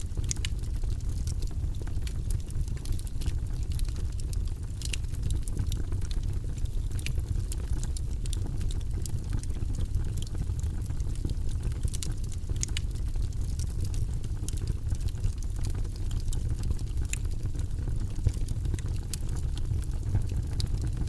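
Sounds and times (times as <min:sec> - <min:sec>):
fire crackling and popping: 0:00.0 - 0:21.0
fire rumbling: 0:00.0 - 0:21.0.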